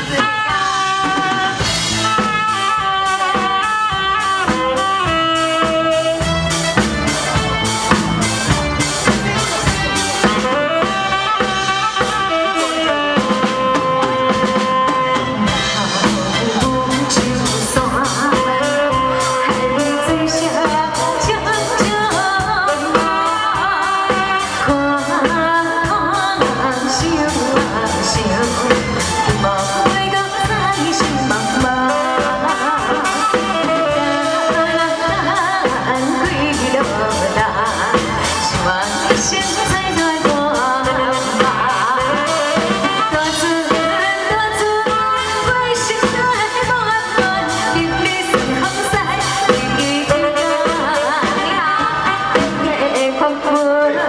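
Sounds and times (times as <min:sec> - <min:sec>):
drum kit steady beat: 0:00.0 - 0:54.0
held brass or keyboard melody: 0:00.0 - 0:54.0
woman singing: 0:10.4 - 0:54.0.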